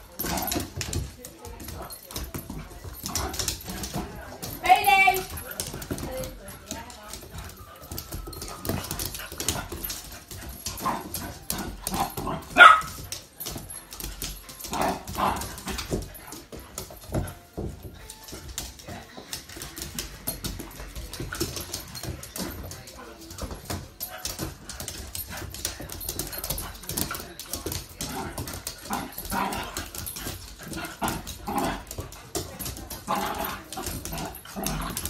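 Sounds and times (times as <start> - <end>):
paws scuffling on wooden floor: 0.0 - 35.0.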